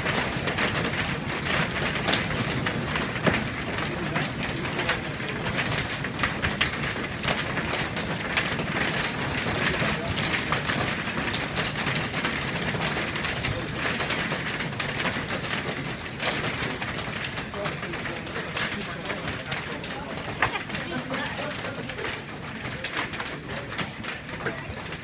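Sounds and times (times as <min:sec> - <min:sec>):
hailstones ticking on glass: 0:00.0 - 0:25.0.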